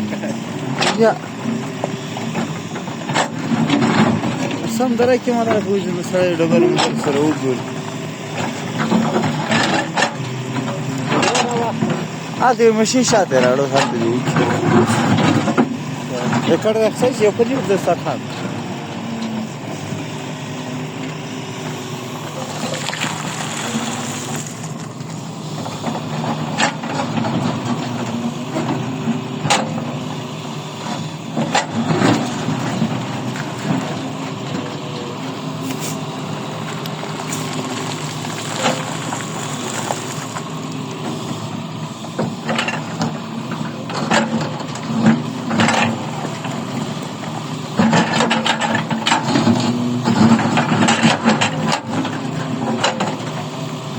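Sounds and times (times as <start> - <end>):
mining machine engine running: 0.0 - 53.9.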